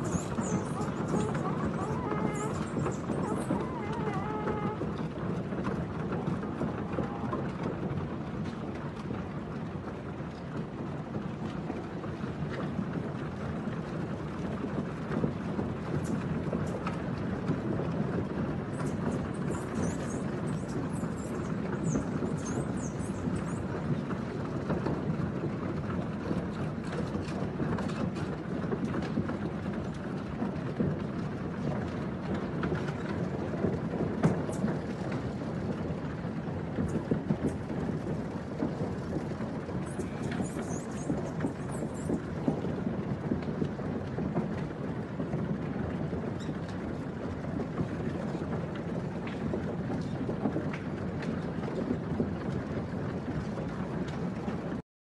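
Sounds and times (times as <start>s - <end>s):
cattle hooves on wooden planks: 0.0s - 54.8s.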